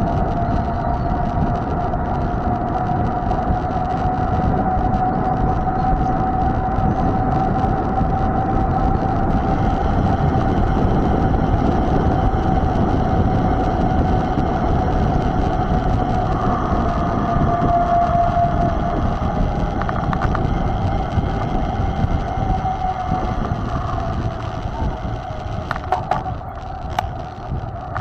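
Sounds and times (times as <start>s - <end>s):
bike tyre noise: 0.0s - 28.0s
thin steady whine: 0.0s - 28.0s
wind rumble on microphone: 0.0s - 28.0s.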